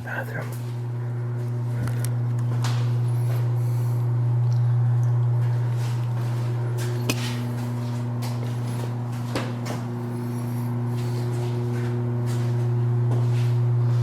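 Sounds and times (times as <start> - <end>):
loud steady low hum: 0.0 - 14.0.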